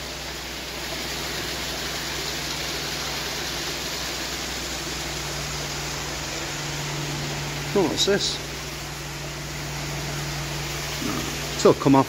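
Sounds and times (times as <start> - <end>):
low mechanical hum: 0.0 - 12.0
steady hiss: 0.0 - 12.0.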